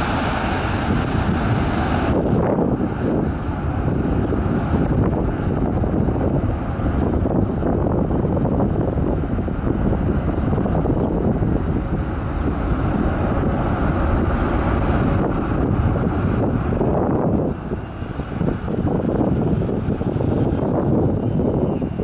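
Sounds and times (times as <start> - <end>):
jet engine rumble: 0.0 - 22.0
wind on microphone: 0.0 - 22.0.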